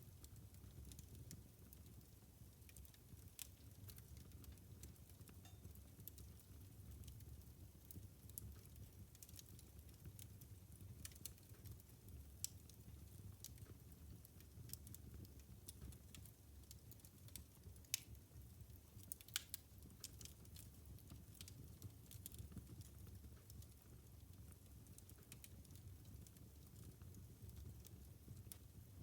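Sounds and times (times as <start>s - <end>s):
fire crackling and popping: 0.1s - 29.0s.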